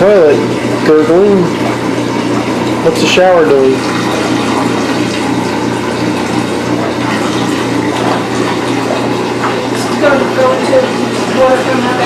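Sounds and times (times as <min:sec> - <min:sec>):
drain bubbling and churning: 0:00.0 - 0:12.0.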